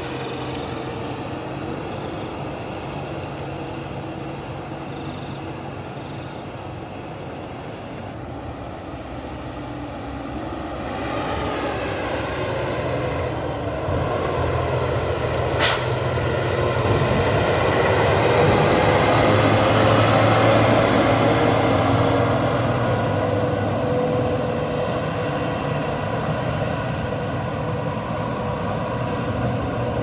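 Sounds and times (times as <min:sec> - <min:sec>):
dump truck engine under load: 0:00.0 - 0:30.0.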